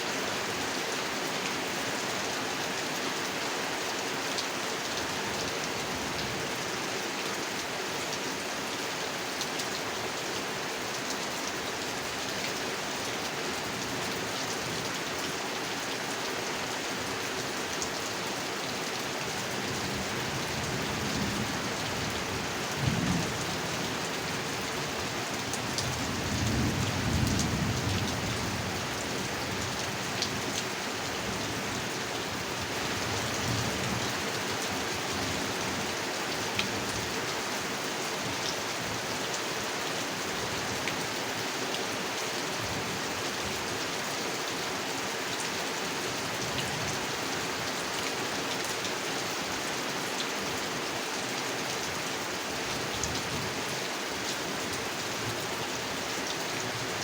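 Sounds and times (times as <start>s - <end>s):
heavy rain on a pond: 0.0s - 57.0s.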